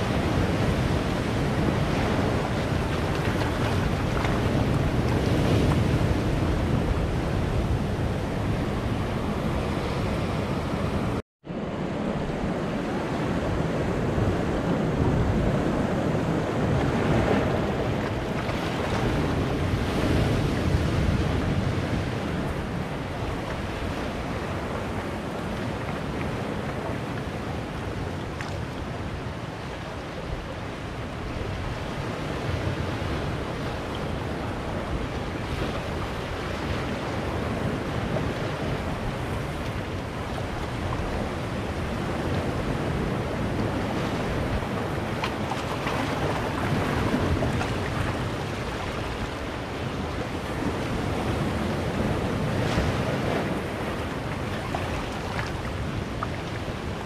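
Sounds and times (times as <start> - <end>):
waves breaking on rocks: 0.0 - 11.0, 14.1 - 57.0.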